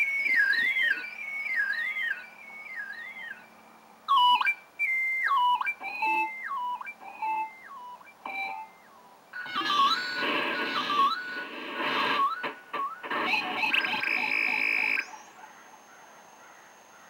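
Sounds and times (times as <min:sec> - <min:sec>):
synthesizer whistle-like tones: 0:00.0 - 0:03.5, 0:04.1 - 0:16.0.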